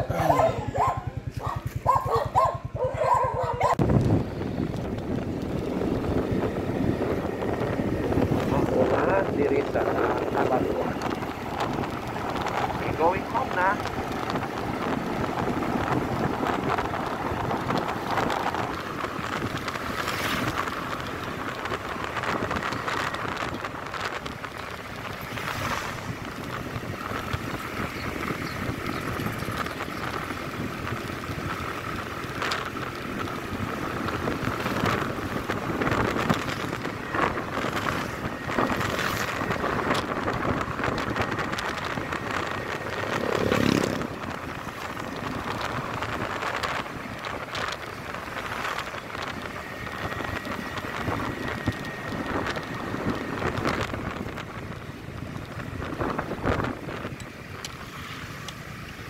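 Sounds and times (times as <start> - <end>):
motorcycle engine: 0.0 - 59.0
tyre noise on road: 0.0 - 59.0
wind buffeting microphone: 0.0 - 59.0.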